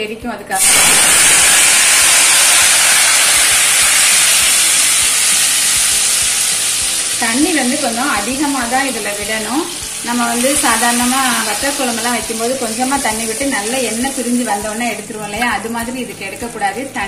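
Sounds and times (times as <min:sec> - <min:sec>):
food sizzling in hot oil: 0:00.6 - 0:17.0.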